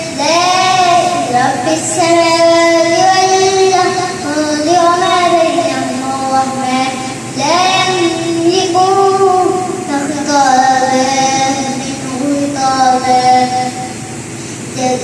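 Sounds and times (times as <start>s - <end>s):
boy chanting into a microphone: 0.0s - 14.0s, 14.8s - 15.0s.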